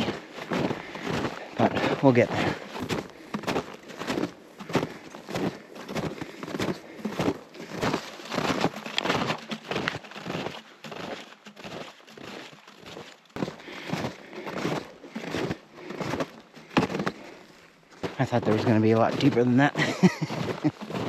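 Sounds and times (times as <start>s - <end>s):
snowshoe steps crunching snow: 0.0s - 21.0s.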